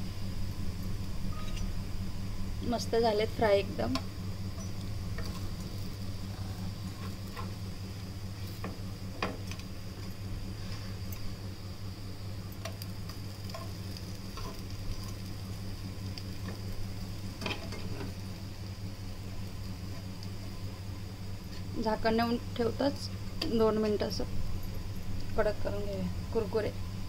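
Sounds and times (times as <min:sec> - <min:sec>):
steady low hum: 0:00.0 - 0:27.0
slices sizzling in oil: 0:02.4 - 0:26.6.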